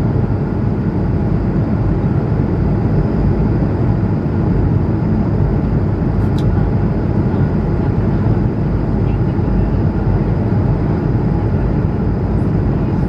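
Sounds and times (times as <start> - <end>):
airliner cabin noise in flight: 0.0 - 13.0.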